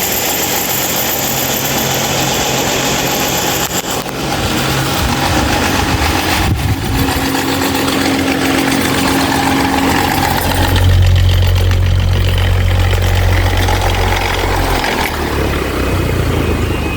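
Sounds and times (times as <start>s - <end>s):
stand fan motor hum and air: 0.0s - 16.9s.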